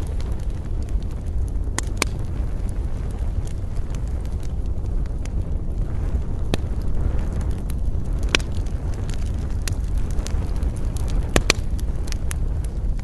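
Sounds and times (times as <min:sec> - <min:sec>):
campfire crackling and popping: 0:00.0 - 0:13.0
steady low rumble: 0:00.0 - 0:13.0.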